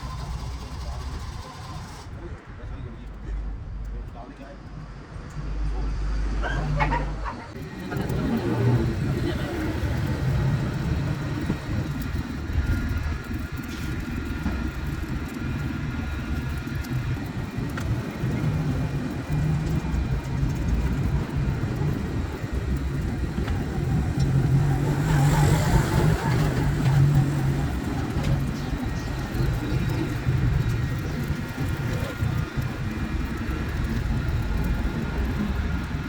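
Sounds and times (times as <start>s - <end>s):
low motor rumble: 0.0s - 36.0s.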